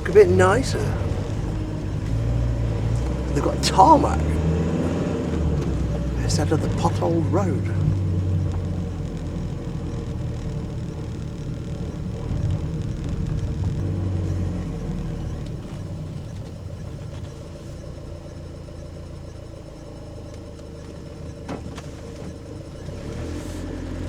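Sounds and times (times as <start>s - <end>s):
road rumble: 0.0s - 24.0s
van engine running: 0.0s - 24.0s.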